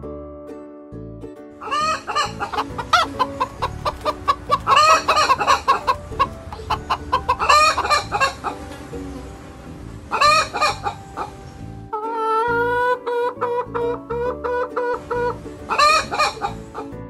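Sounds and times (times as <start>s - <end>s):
chickens clucking and squawking: 1.6s - 17.0s.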